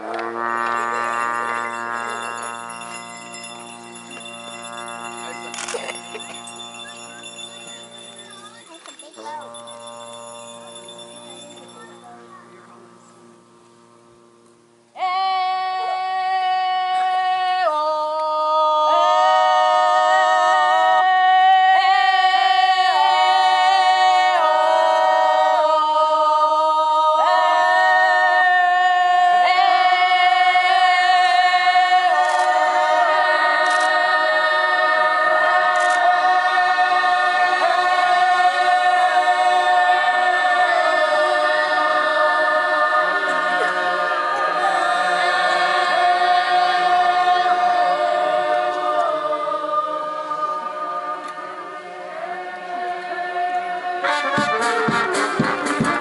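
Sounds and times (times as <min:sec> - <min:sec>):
group singing unaccompanied: 0:00.0 - 0:08.4, 0:15.0 - 0:56.0.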